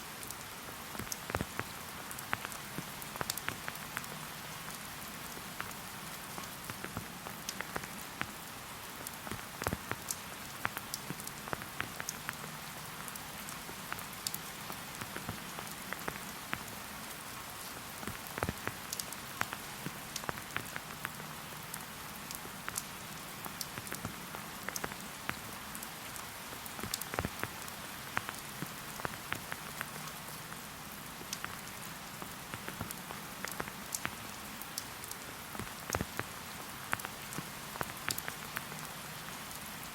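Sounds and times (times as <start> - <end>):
rain falling in a forest: 0.0 - 39.9
raindrops ticking: 0.2 - 17.3, 17.9 - 39.9.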